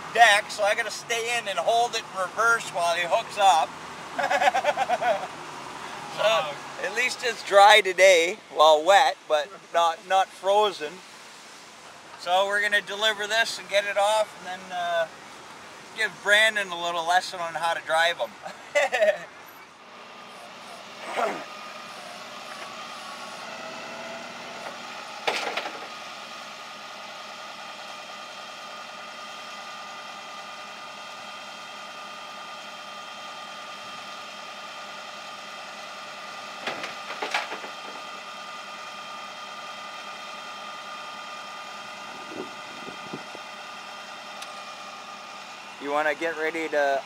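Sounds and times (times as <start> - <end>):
truck running hum: 0.0 - 47.0.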